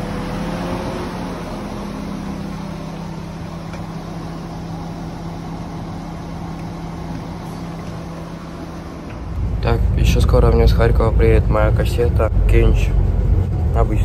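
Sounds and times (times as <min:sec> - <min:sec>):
train machinery humming: 0:01.2 - 0:13.2.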